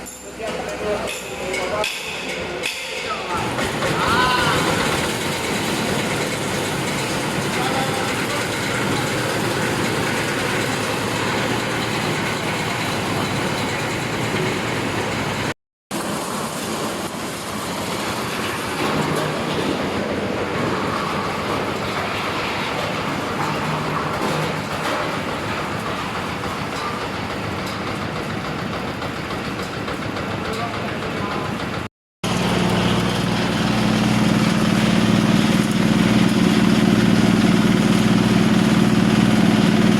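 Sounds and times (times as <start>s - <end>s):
machine rattling: 2.3s - 39.9s.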